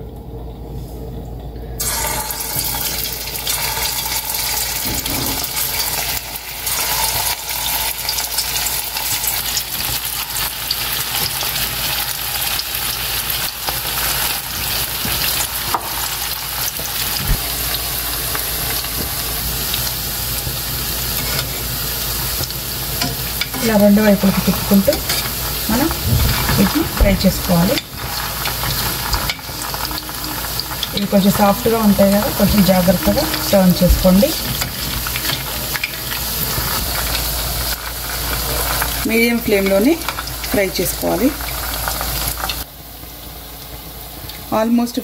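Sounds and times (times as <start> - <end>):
hot oil sizzling: 1.8 - 45.0.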